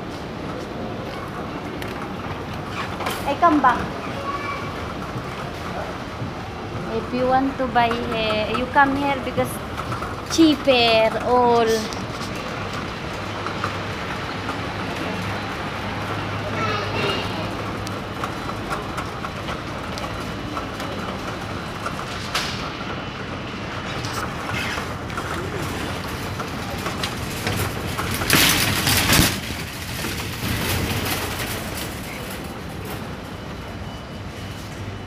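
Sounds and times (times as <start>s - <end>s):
moving walkway hum and rattle: 0.0s - 35.0s.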